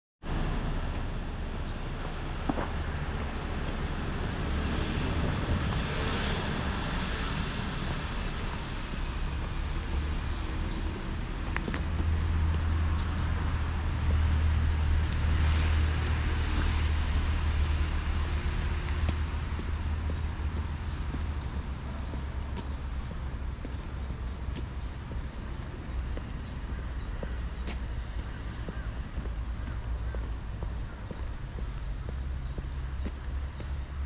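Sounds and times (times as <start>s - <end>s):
wind rumbling on microphone: 0.3s - 34.0s.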